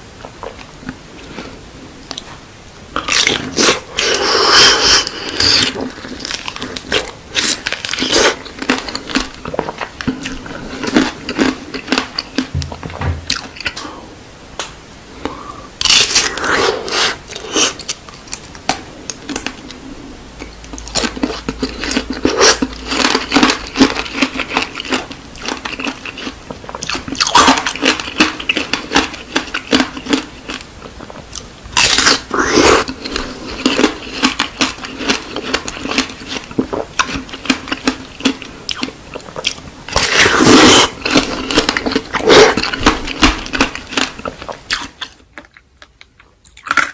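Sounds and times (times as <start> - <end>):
biting and chewing candied fruit: 0.2 - 13.9, 15.2 - 19.8, 20.4 - 46.9.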